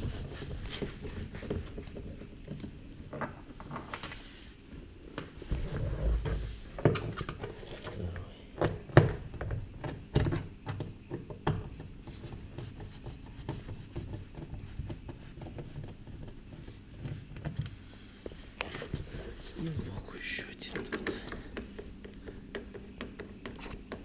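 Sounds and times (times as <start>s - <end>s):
scratching and handling noise: 0.0s - 24.0s.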